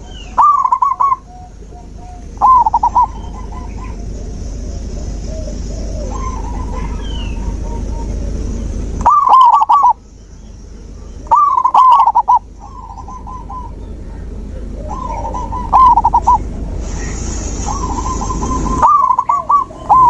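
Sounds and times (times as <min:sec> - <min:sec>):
doves cooing: 0:00.0 - 0:10.1, 0:10.7 - 0:20.0
steady high hiss: 0:00.0 - 0:20.0.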